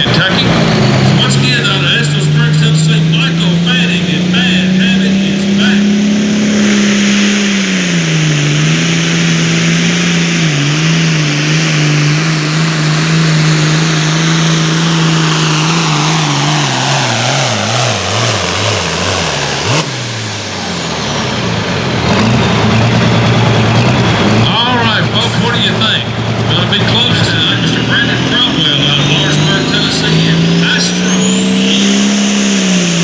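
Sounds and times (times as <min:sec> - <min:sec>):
diesel tractor engine under load: 0:00.0 - 0:33.0.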